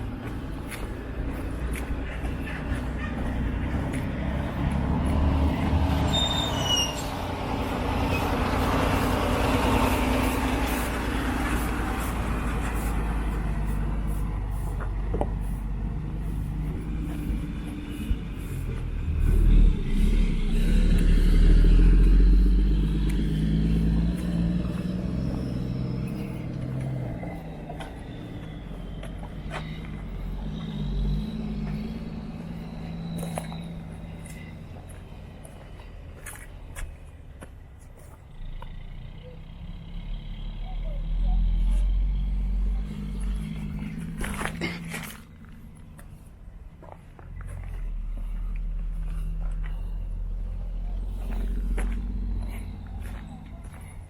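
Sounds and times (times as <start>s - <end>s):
steady low rumble: 0.0s - 6.1s, 7.2s - 38.6s, 42.2s - 54.0s
motor vehicle passing: 0.0s - 54.0s.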